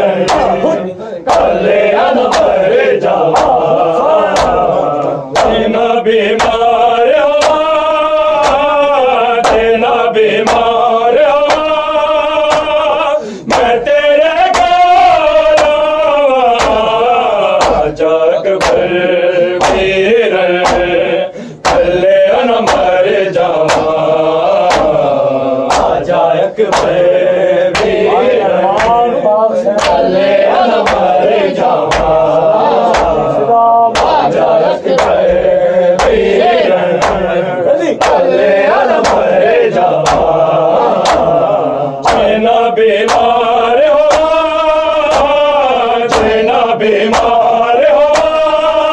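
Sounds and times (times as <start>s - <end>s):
man chanting a lament: 0.0s - 48.9s.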